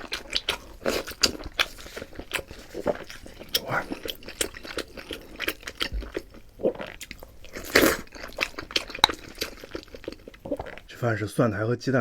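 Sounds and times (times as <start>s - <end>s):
chewing with mouth clicks: 0.0s - 10.9s.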